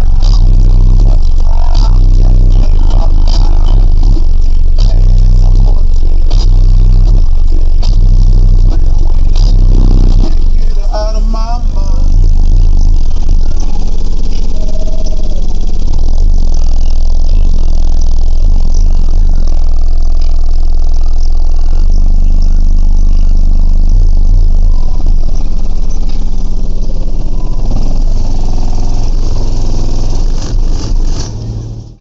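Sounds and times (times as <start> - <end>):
subwoofer deep bass: 0.0 - 32.0.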